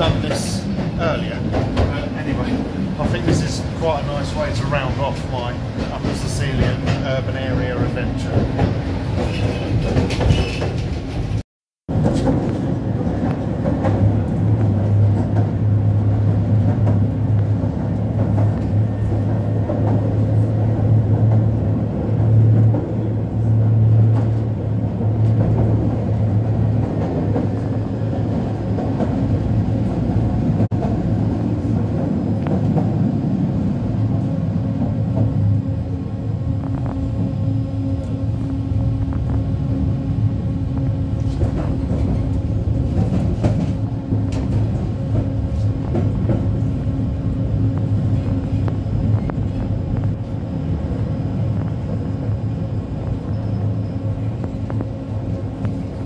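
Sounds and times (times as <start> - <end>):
tram motor hum: 0.0 - 56.0
wheels rumbling on track: 0.0 - 56.0.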